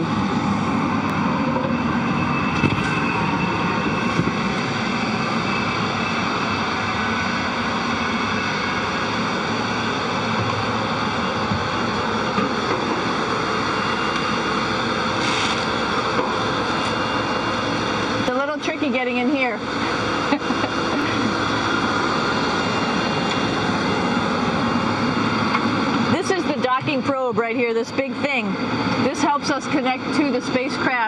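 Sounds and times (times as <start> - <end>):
ventilation fans humming: 0.0 - 31.0.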